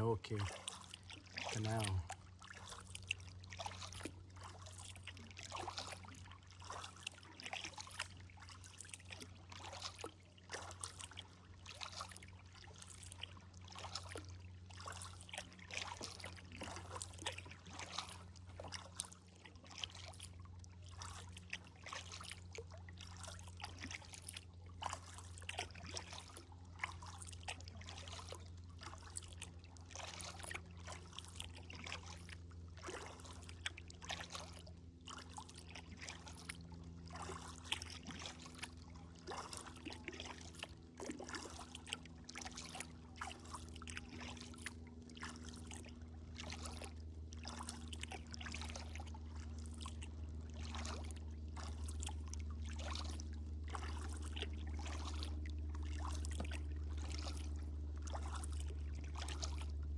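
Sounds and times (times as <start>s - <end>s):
paddle blades dipping in water: 0.0s - 59.9s.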